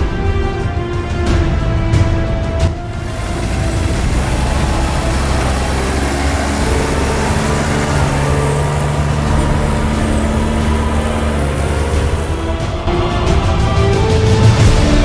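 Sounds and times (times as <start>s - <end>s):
trailer rattling: 0.0s - 15.0s
tractor diesel engine running: 2.6s - 15.0s.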